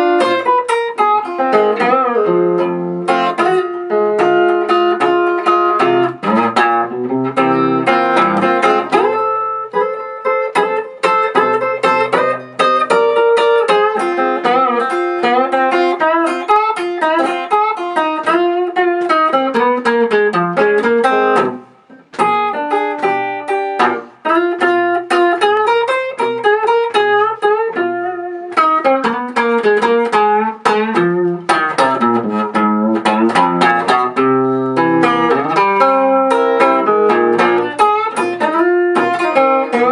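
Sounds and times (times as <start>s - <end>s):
blues guitar playing: 0.0s - 39.9s.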